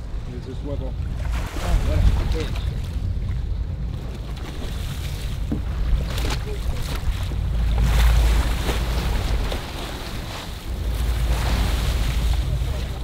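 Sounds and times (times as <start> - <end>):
boat engine rumble: 0.0 - 13.0
rushing sea: 0.0 - 13.0
water splashing against hull: 0.0 - 13.0
wind: 0.0 - 13.0.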